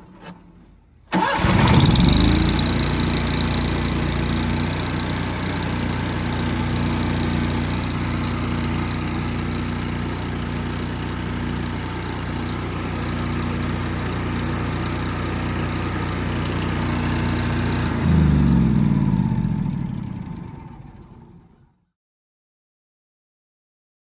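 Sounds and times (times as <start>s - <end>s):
engine idling: 0.0s - 21.8s
engine running down: 0.2s - 21.9s.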